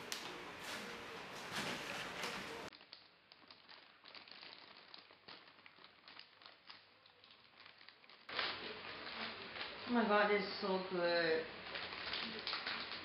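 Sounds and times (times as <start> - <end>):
chip bag crinkling: 0.1 - 13.0.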